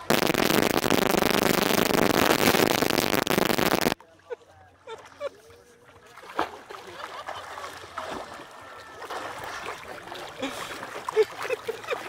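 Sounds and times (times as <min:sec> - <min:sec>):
water splashing over microphone: 0:00.0 - 0:04.0, 0:06.0 - 0:12.0.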